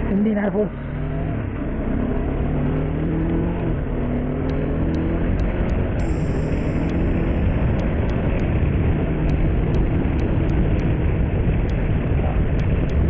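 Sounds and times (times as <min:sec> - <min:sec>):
motorcycle engine running: 0:00.0 - 0:13.0
wind rushing over microphone: 0:02.3 - 0:13.0.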